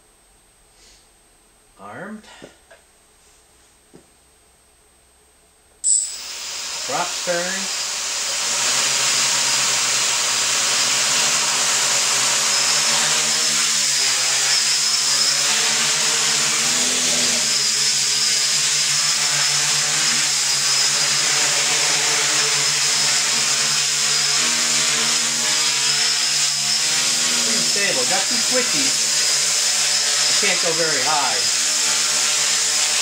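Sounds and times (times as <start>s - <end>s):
high motor whine: 5.8s - 33.0s
quadcopter rotor hum: 5.9s - 33.0s.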